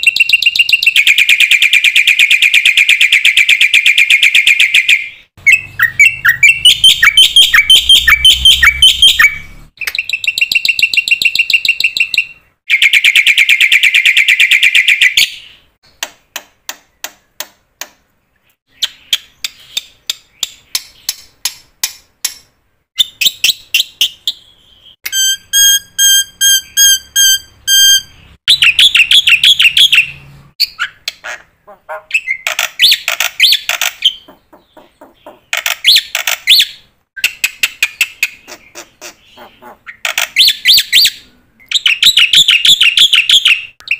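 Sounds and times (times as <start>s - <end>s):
bird trills and chirps: 0.0s - 17.3s, 18.3s - 43.9s.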